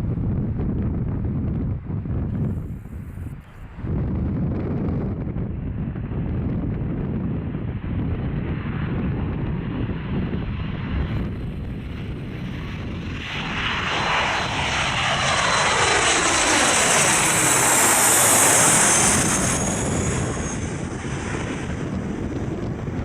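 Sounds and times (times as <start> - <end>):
jet engines passing by: 0.0 - 23.0
wind on microphone: 0.0 - 23.0.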